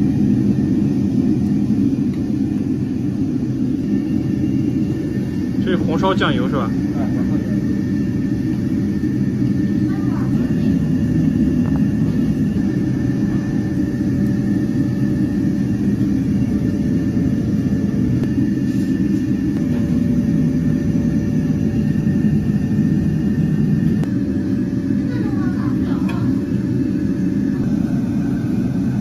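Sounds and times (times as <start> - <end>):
faint whines: 0.0 - 29.0
stove rumbling: 0.0 - 29.0.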